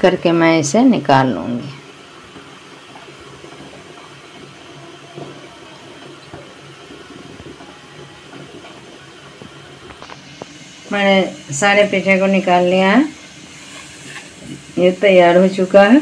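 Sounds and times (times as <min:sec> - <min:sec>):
water boiling in a pot: 0:00.0 - 0:16.0.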